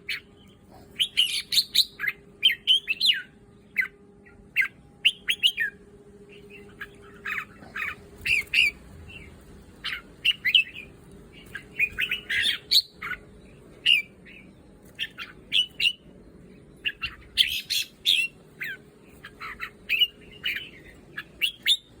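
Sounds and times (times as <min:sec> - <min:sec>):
birds chirping and squawking: 0:00.0 - 0:22.0.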